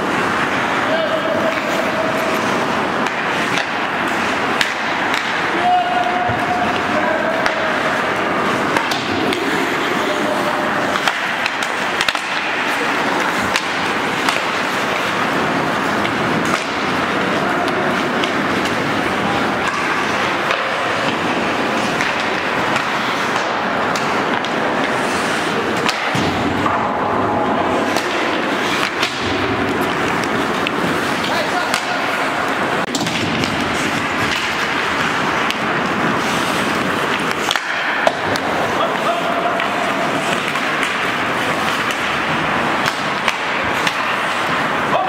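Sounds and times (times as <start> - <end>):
skate blades scraping ice: 0.0 - 26.8, 27.4 - 45.0
hockey sticks and puck clacking: 0.0 - 45.0.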